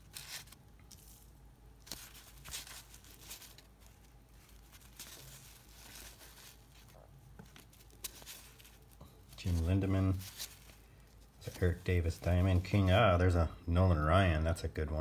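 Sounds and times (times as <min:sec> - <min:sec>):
trading cards rustling: 0:00.0 - 0:13.5.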